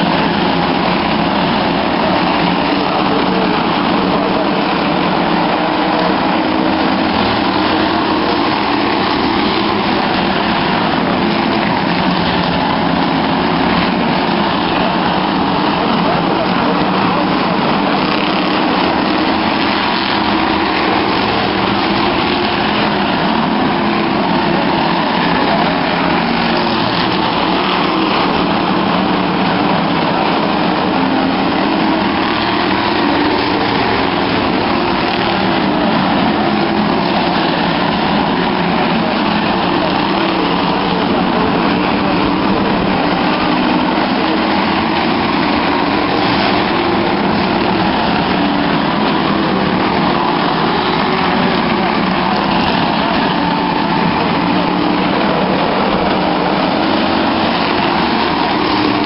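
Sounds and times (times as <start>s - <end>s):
spectators' voices: 0.0s - 59.0s
stock car engines racing: 0.0s - 59.0s.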